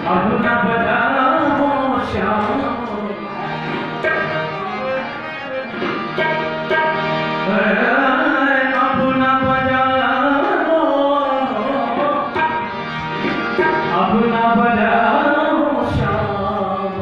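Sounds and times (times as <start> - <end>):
man singing long notes: 0.0 - 5.4, 7.4 - 12.8, 13.7 - 17.0
harmonium: 0.0 - 17.0
tabla: 0.0 - 17.0.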